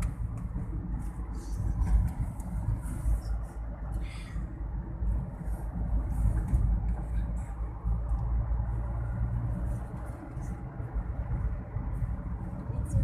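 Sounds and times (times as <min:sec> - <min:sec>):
car road rumble inside cabin: 0:00.0 - 0:13.0.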